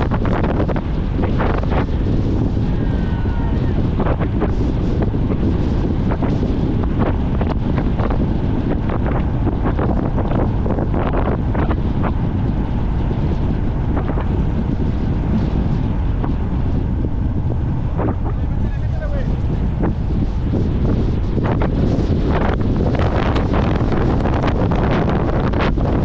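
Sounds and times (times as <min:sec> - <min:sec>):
low rumble: 0:00.0 - 0:26.0
wind noise on microphone: 0:00.0 - 0:26.0.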